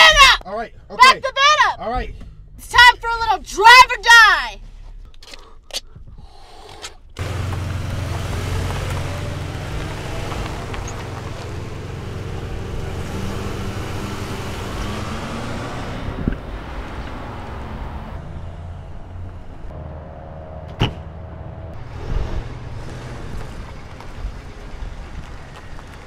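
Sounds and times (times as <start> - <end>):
van engine hum: 0.0 - 6.2, 6.9 - 26.0
road noise: 0.0 - 26.0.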